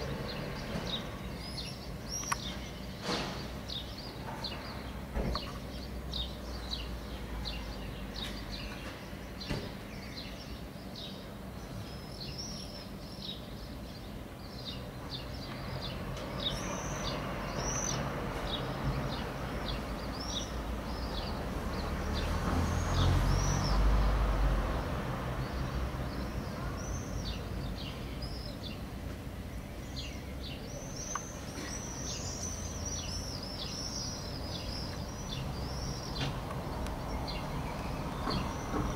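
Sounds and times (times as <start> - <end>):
birds chirping: 0.0 - 38.9
outdoor background noise: 0.0 - 38.9.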